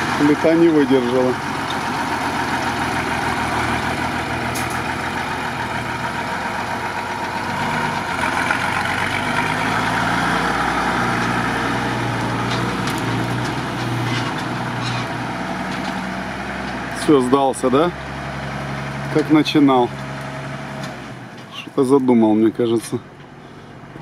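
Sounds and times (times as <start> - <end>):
truck engine at low revs: 0.0 - 24.0.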